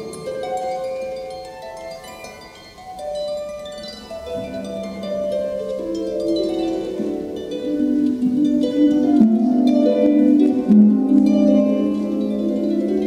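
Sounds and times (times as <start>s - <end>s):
harp playing: 0.0s - 13.0s.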